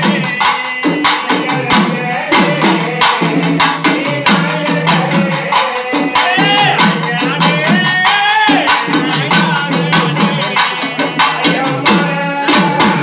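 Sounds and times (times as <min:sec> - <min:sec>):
drums beaten in fast rhythm: 0:00.0 - 0:13.0
men chanting: 0:00.0 - 0:13.0.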